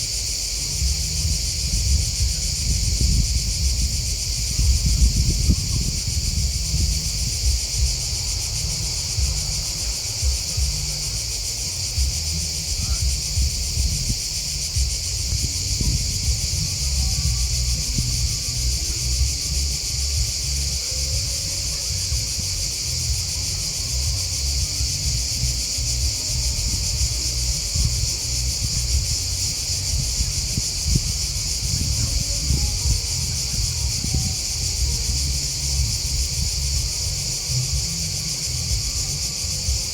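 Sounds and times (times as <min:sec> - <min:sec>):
crickets and grasshoppers chirping: 0:00.0 - 0:39.9
low rumble: 0:00.0 - 0:39.9.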